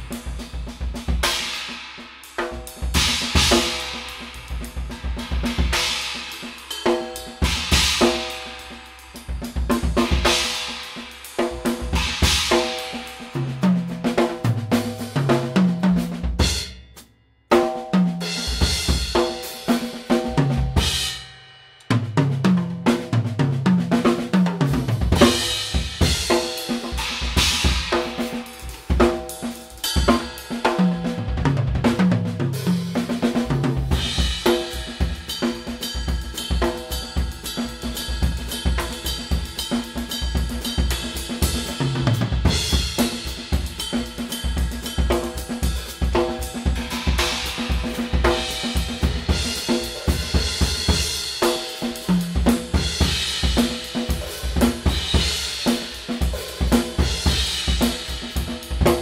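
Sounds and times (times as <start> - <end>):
drum kit playing: 0.0 - 59.0.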